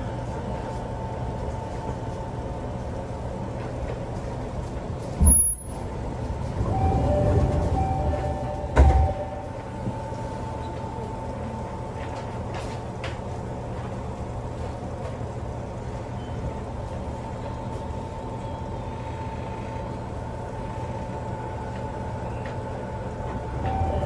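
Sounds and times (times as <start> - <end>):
electric train equipment hum: 0.0 - 24.0.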